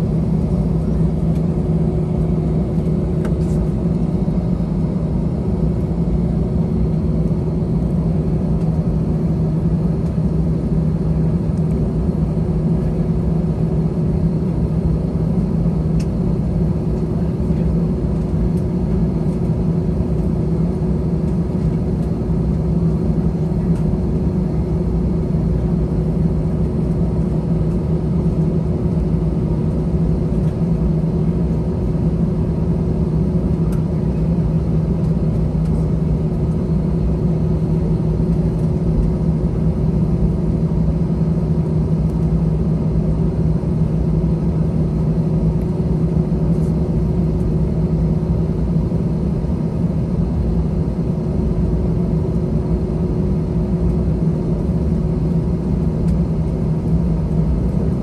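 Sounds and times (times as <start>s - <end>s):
aircraft cabin engine hum: 0.0s - 58.0s.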